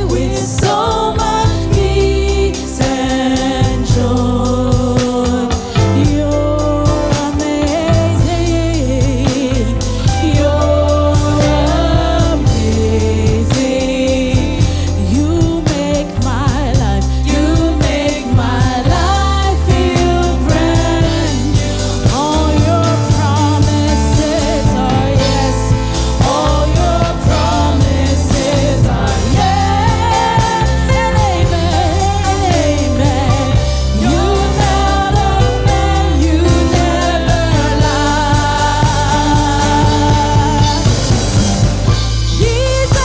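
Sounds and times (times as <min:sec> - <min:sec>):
person singing: 0:00.0 - 0:41.5, 0:42.3 - 0:43.0
band with bass and drums: 0:00.0 - 0:43.0.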